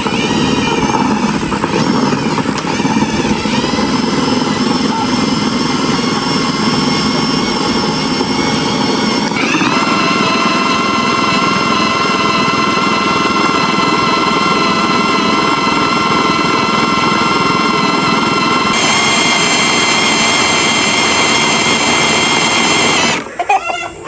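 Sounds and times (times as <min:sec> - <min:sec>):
whining motor under load: 0:00.0 - 0:24.0.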